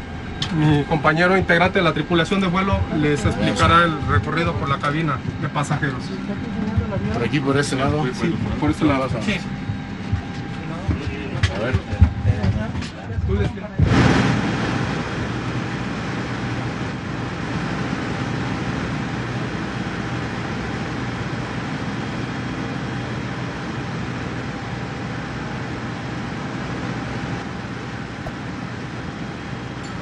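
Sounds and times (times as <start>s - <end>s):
rumbling and hissing noise: 0.0s - 29.8s
faint steady hum: 0.0s - 30.0s.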